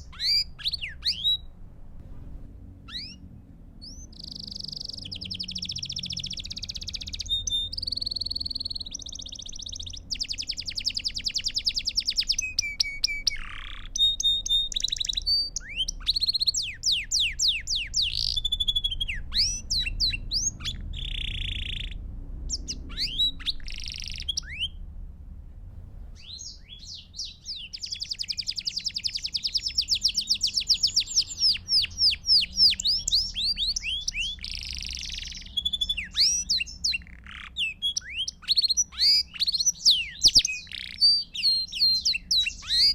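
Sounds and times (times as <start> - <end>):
canary singing trills: 0.0 - 1.6, 2.8 - 24.9, 26.2 - 42.9.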